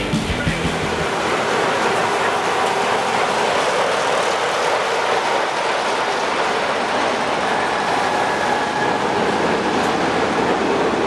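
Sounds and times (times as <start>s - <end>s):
diesel locomotive running: 0.0s - 11.0s
train wheels rolling over rails: 0.5s - 11.0s.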